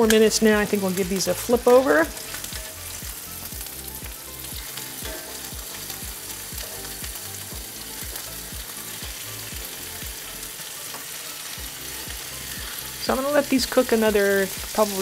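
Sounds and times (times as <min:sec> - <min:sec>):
chicken sizzling in a skillet: 0:00.0 - 0:15.0.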